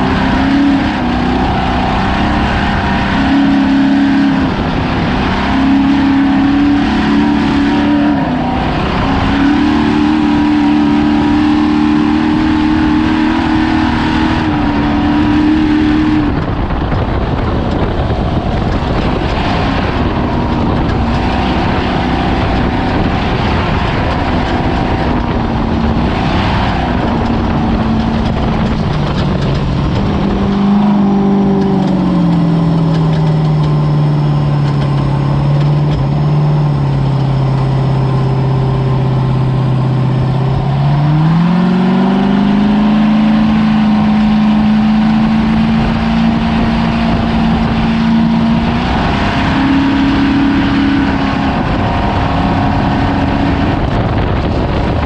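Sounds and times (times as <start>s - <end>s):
rush of noise: 0.0s - 55.0s
truck engine revving: 0.0s - 55.0s.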